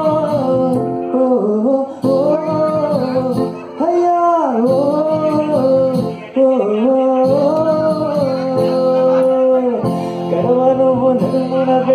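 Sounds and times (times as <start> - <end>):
instrumental accompaniment: 0.0 - 11.9
man singing through pa: 0.0 - 11.9.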